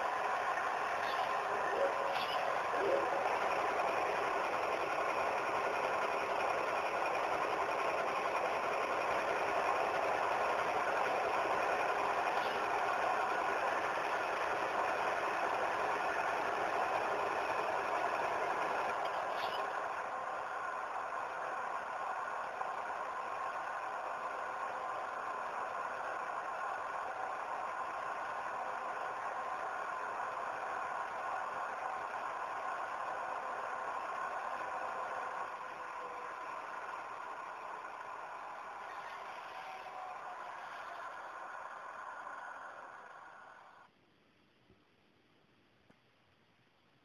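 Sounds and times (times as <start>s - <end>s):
model locomotive running: 0.0s - 43.9s.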